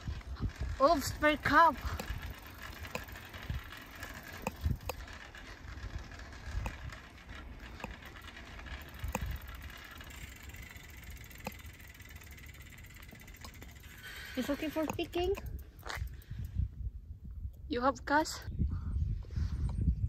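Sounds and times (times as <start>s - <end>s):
bike clicks and rattles: 0.0s - 16.8s
bicycle rolling on asphalt: 0.0s - 17.0s.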